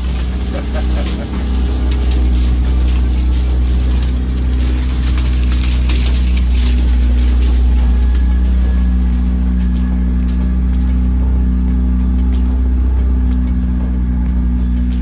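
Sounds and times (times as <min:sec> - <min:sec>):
boat engine humming: 0:00.0 - 0:15.0
reeds brushing boat side: 0:00.0 - 0:15.0.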